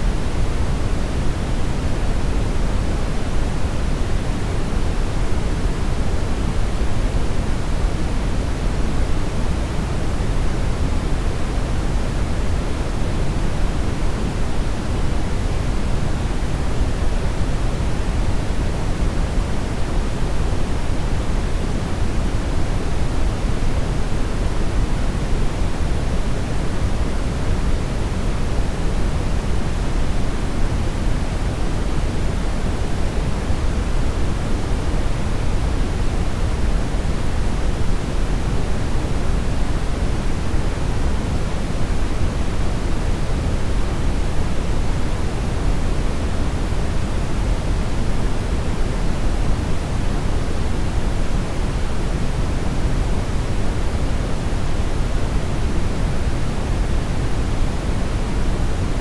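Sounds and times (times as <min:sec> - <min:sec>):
brown noise rumbling hiss: 0:00.0 - 0:59.0.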